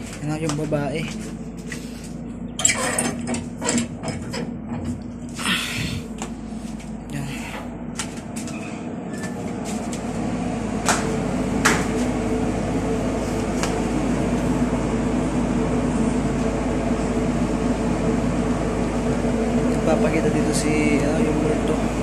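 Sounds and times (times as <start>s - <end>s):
engine room machinery droning: 0.0s - 22.0s.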